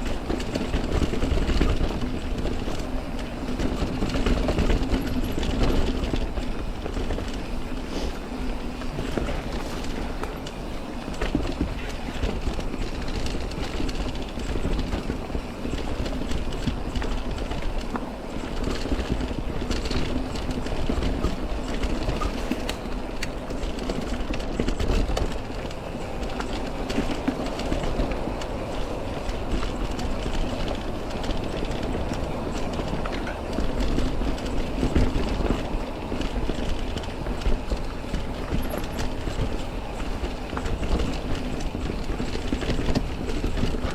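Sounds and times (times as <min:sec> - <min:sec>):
bike rattling and knocking: 0:00.0 - 0:43.9
bike tyre rumble: 0:00.0 - 0:43.9.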